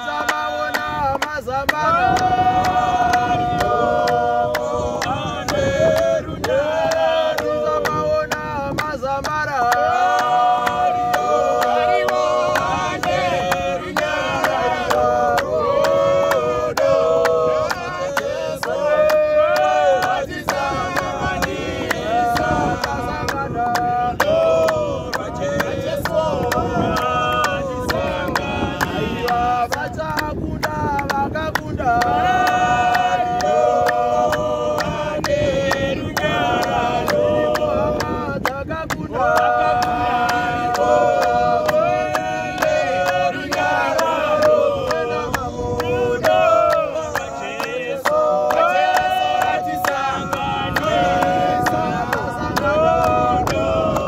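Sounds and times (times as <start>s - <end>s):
hand claps: 0.0s - 54.0s
men singing in harmony: 0.0s - 54.0s.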